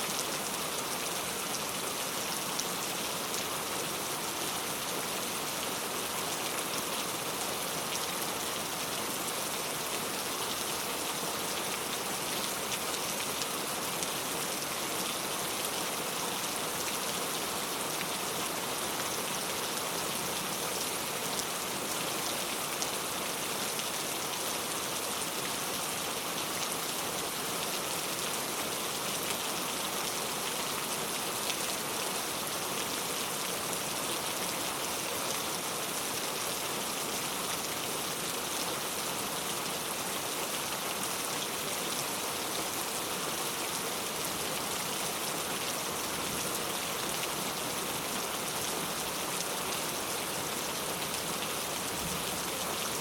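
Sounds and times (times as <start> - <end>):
heavy rain falling: 0.1 - 53.0.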